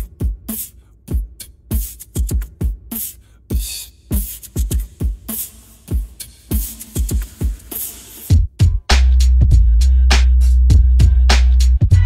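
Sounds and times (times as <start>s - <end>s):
electronic drum beat music: 0.0s - 12.0s.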